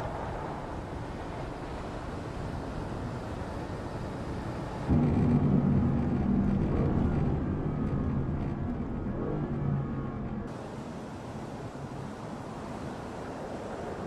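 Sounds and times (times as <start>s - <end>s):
low engine drone: 0.0s - 14.0s
wind and road noise: 0.0s - 14.0s.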